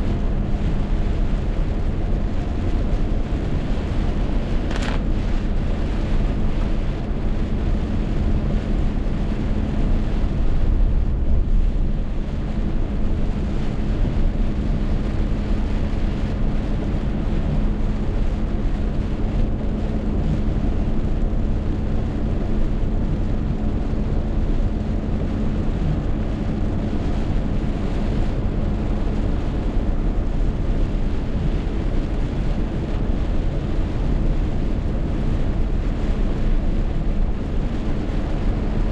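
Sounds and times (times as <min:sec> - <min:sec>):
wind and rain roaring: 0:00.0 - 0:38.9
wind buffeting the microphone: 0:00.0 - 0:38.9.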